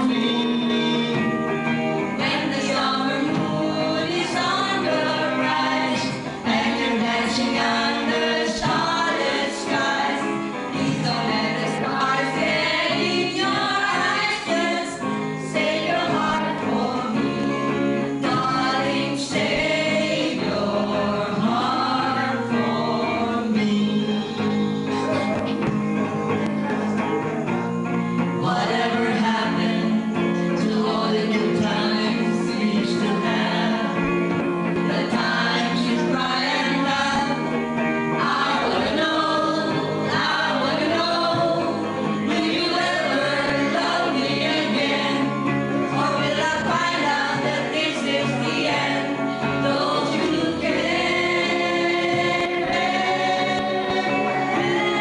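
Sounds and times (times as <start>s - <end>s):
group singing: 0.0s - 55.0s
guitar: 0.0s - 55.0s.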